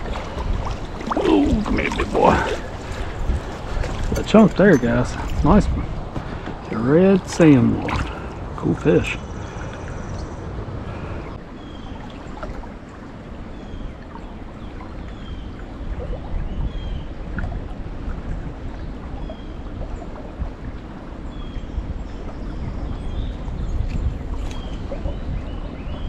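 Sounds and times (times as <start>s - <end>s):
stream water running: 0.0s - 26.0s
wind buffeting microphone: 0.0s - 26.0s.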